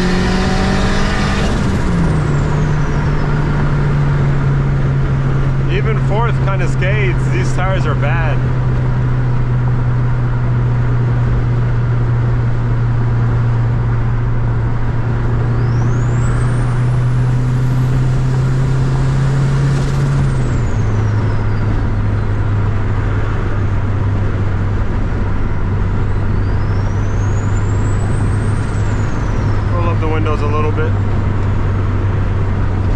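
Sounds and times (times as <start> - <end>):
car engine and exhaust droning: 0.0 - 32.9
high turbo whine: 0.0 - 32.9.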